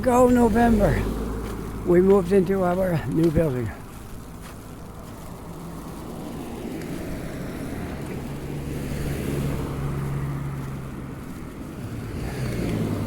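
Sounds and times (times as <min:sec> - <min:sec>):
tyres rushing on road: 0:00.0 - 0:13.0
vehicle engine hum: 0:00.0 - 0:13.0.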